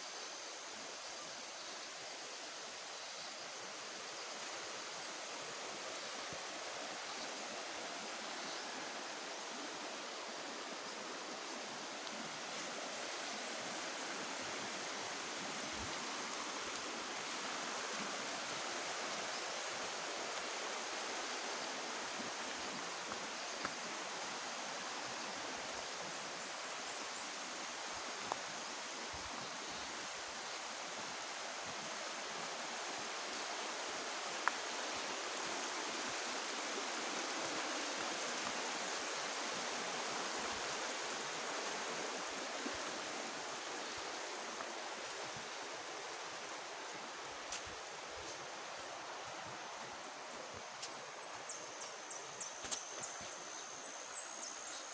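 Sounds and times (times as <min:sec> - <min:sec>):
river running over stones: 0:00.0 - 0:54.9.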